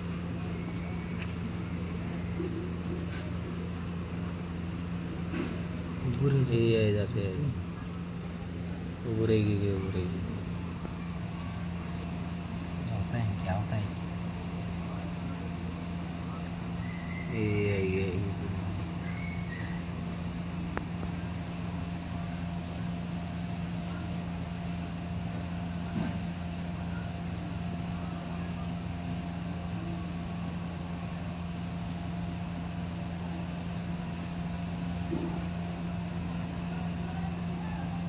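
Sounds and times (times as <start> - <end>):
machine humming: 0.0 - 38.0.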